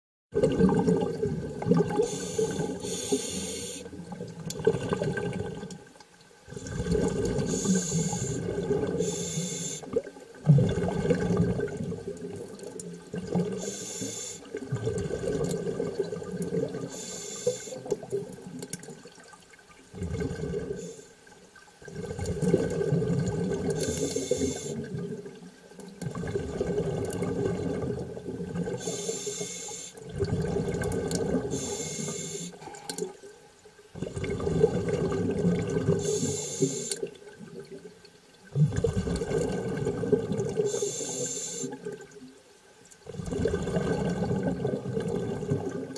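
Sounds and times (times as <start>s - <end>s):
underwater rushing and bubbling: 0.3s - 45.9s.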